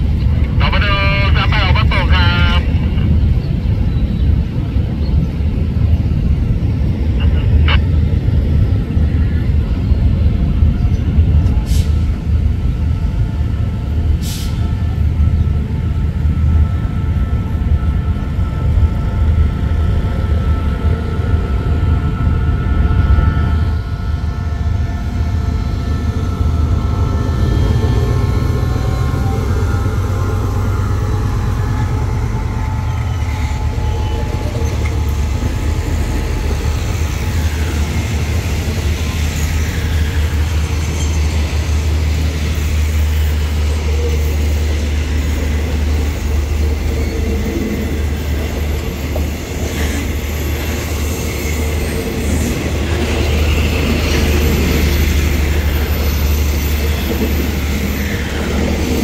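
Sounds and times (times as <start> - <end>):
locomotive engine passing: 0.0 - 59.0
train wheels rumbling on rail: 0.0 - 59.0.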